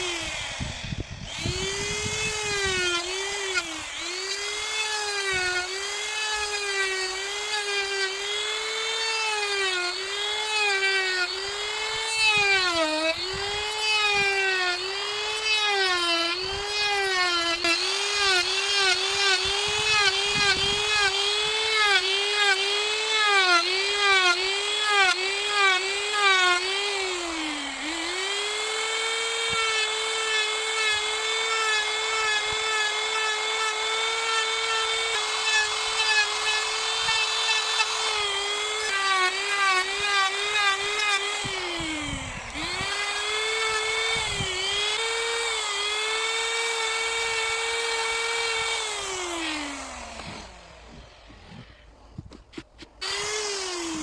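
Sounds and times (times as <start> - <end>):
power carving tool cutting wood: 0.0 - 54.0.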